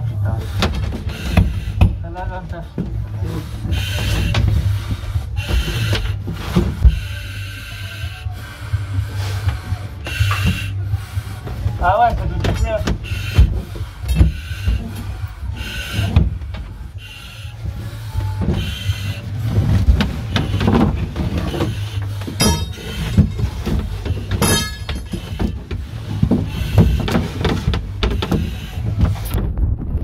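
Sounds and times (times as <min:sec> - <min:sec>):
gear scraping against wooden boards: 0:00.0 - 0:08.2, 0:08.8 - 0:29.4
hissing breaths through masks: 0:00.0 - 0:29.4.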